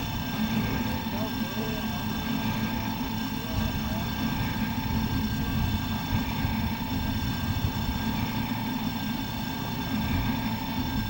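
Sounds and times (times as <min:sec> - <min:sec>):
engine idling: 0:00.0 - 0:11.0
faint steady whine: 0:00.0 - 0:11.0.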